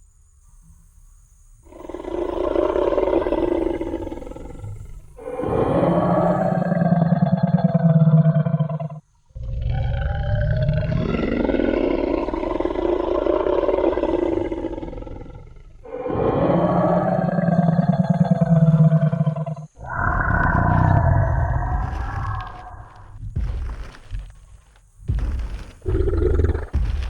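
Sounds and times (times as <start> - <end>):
deep dinosaur roars: 1.7 - 24.0, 25.1 - 27.0.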